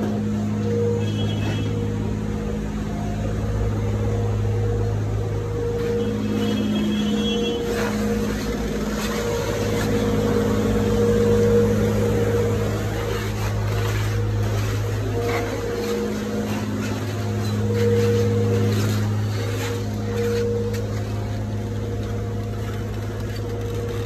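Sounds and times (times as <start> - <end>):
machine motor humming: 0.0 - 24.0.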